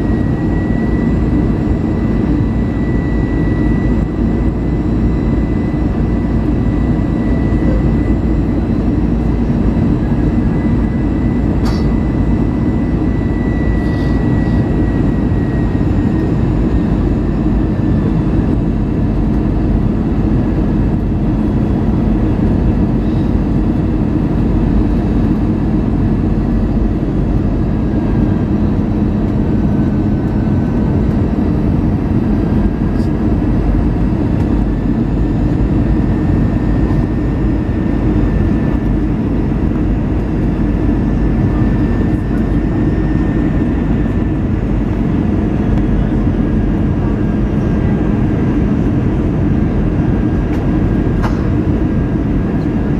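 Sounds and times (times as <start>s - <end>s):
jet engines and air rush in cabin: 0.0s - 52.9s.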